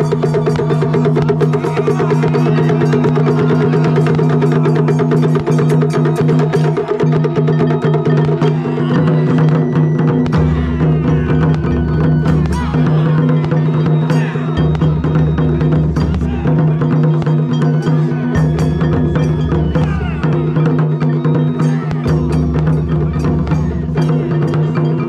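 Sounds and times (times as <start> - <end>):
taiko drums playing fast: 0.0 - 25.0.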